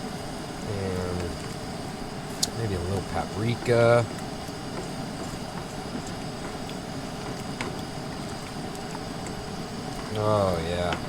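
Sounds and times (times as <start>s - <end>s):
pot cooking with hissing rumble: 0.0s - 11.0s.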